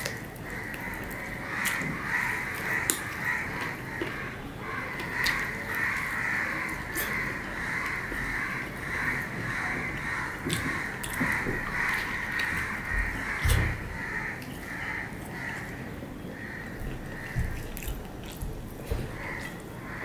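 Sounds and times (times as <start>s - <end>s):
clicks and smacks from eating: 0.0s - 15.8s, 16.8s - 20.0s
crows cawing: 0.1s - 17.9s, 19.0s - 20.0s.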